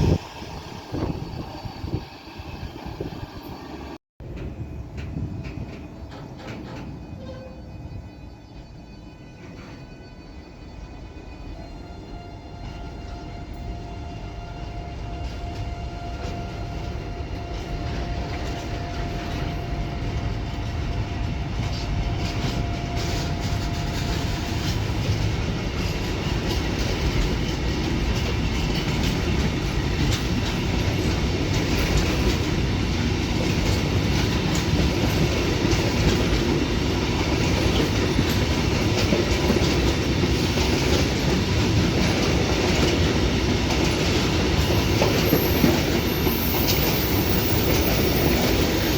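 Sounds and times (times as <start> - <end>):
train wheels clacking and rumbling: 4.2 - 10.5, 11.2 - 48.9.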